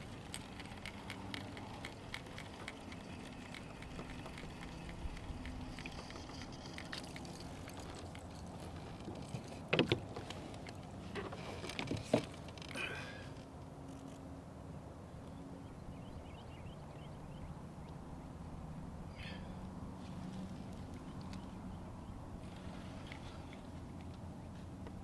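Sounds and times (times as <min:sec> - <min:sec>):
water around kayak: 0:00.0 - 0:25.0.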